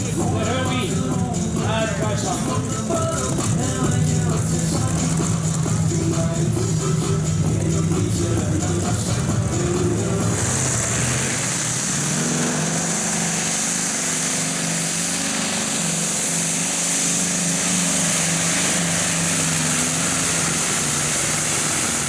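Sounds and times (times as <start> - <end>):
aircraft engine running flat out: 0.0 - 22.0
strong hiss: 0.0 - 22.0.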